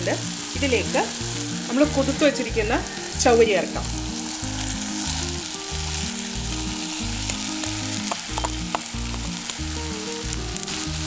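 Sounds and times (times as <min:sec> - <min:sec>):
faint crackles: 0:00.0 - 0:11.0
low background tune: 0:00.0 - 0:11.0
oil sizzling in a pan: 0:00.0 - 0:11.0.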